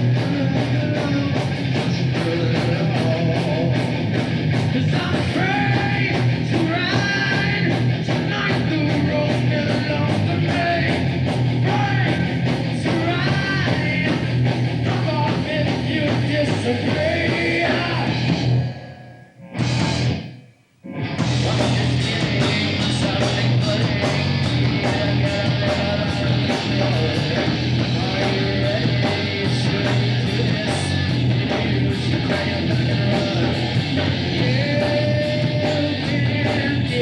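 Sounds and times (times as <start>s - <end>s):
heavy metal band playing: 0.0s - 37.0s.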